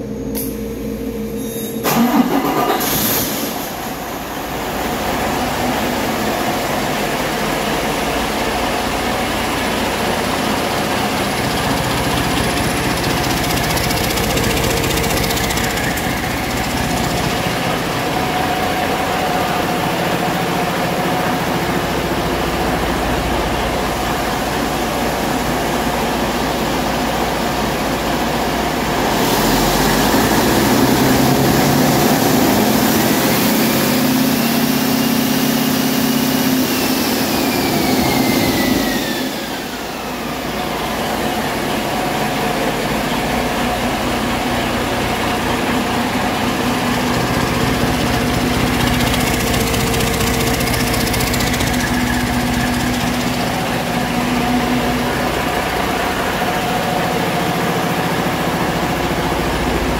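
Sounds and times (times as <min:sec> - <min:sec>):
diesel engine idling and revving: 0:00.0 - 0:59.9.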